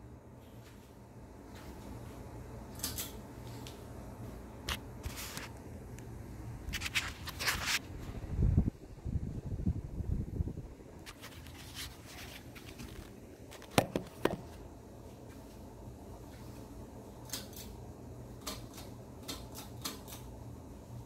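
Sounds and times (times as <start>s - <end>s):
ceiling fan humming: 0.0s - 21.0s.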